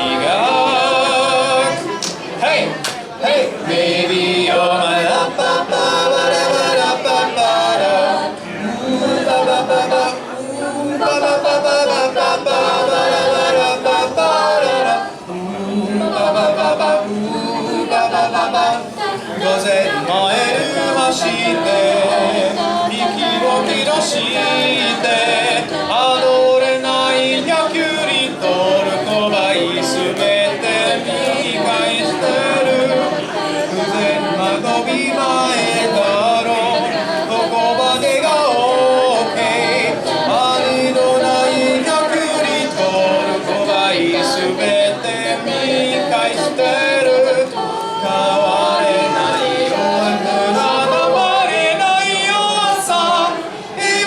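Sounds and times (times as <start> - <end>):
a cappella group singing: 0.0 - 54.0.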